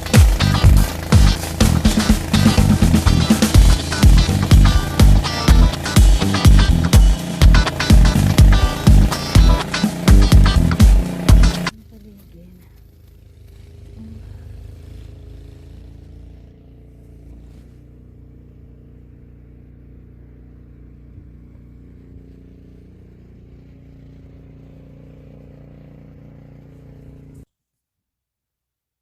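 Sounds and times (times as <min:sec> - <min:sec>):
vehicle engine running: 0:00.0 - 0:27.5.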